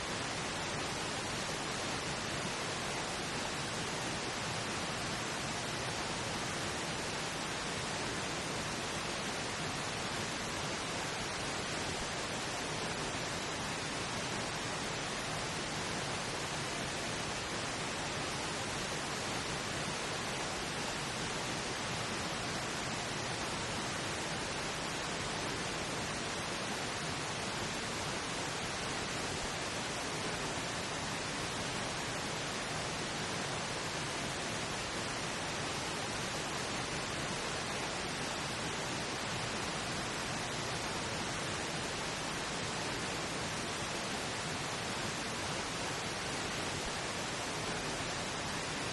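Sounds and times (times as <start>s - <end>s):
steady pink noise: 0.0s - 48.9s.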